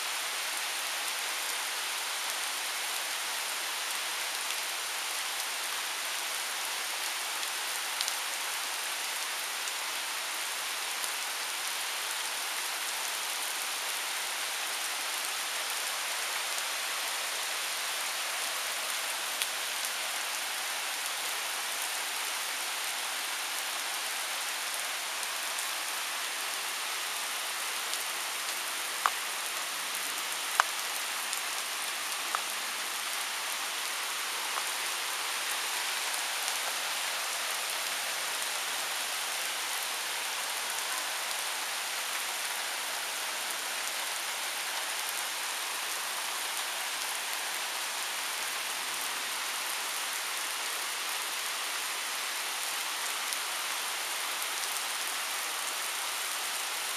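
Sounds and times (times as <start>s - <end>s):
rain on pavement: 0.0s - 56.9s.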